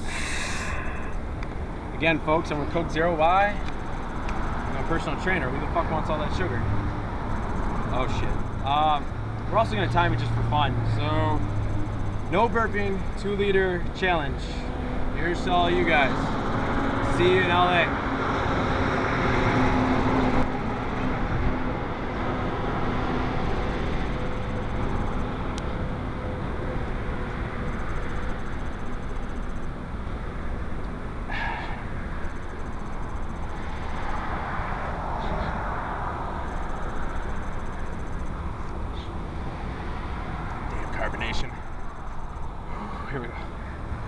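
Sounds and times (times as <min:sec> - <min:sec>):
road noise rumble: 0:00.0 - 0:44.0.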